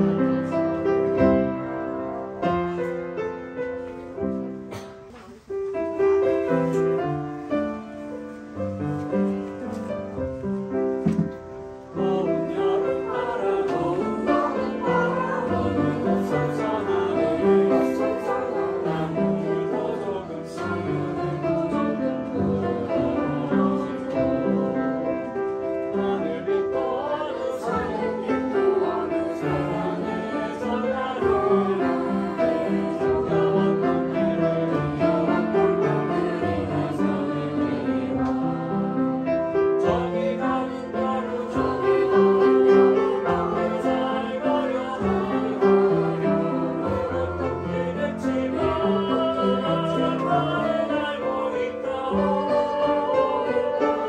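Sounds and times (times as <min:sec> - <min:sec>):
group singing: 0:00.0 - 0:03.2, 0:11.0 - 0:54.0
upright piano: 0:00.0 - 0:54.0.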